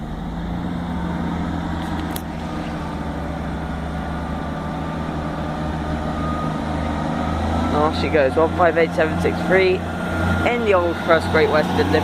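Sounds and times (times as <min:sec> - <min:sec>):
train diesel engines running: 0:00.0 - 0:12.0.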